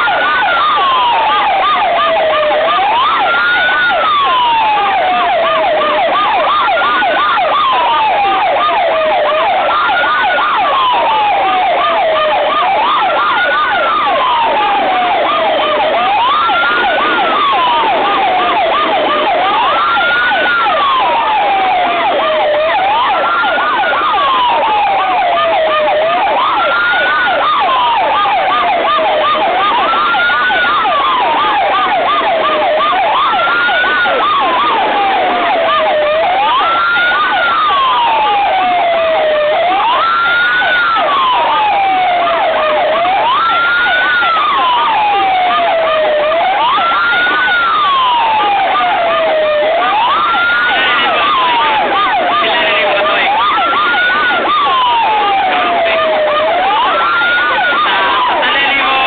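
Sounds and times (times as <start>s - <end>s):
fast yelping siren: 0.0s - 59.0s
wailing siren: 0.0s - 59.0s.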